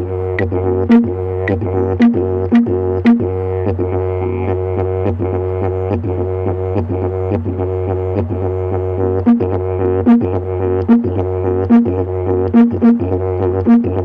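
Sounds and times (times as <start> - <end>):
didgeridoo droning: 0.0 - 14.0
short higher didgeridoo toots: 0.0 - 14.0.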